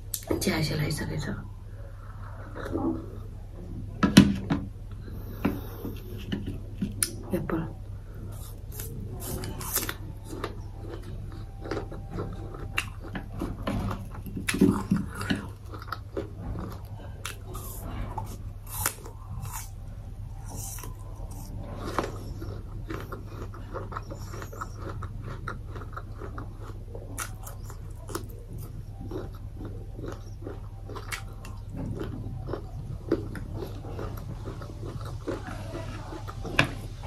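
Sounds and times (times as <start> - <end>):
low hum: 0.0 - 37.0
person chewing food: 1.8 - 7.2, 7.9 - 37.0.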